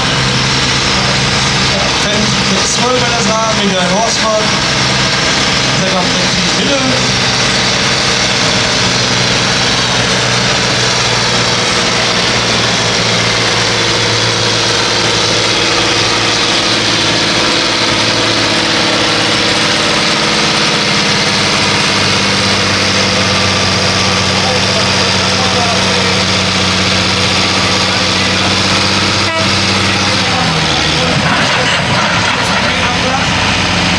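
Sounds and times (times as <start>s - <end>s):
tractor engine running steadily: 0.0s - 33.9s.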